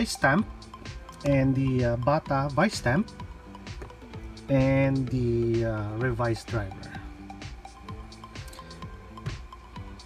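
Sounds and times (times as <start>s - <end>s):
light ticking beat: 0.0s - 10.0s
quiet background music: 0.0s - 10.0s.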